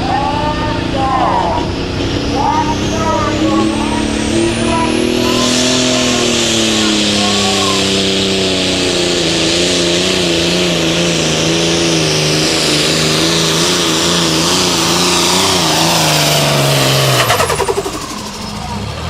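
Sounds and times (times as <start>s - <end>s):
diesel tractor engine under load: 0.0s - 19.0s
high turbo whine: 0.0s - 19.0s.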